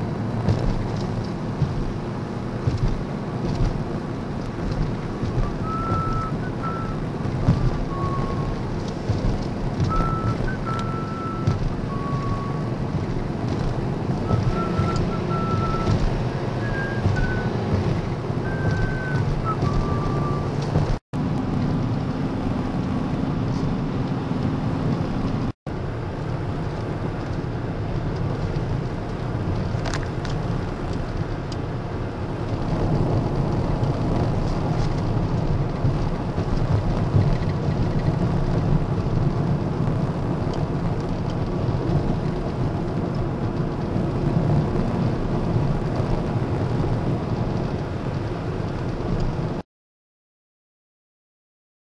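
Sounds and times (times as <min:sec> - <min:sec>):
car road and engine noise: 0:00.0 - 0:49.6.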